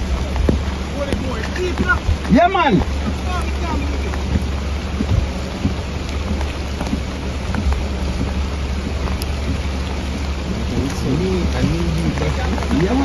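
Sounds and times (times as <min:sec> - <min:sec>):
heavy rain falling: 0:00.0 - 0:13.0
wind buffeting microphone: 0:00.0 - 0:13.0.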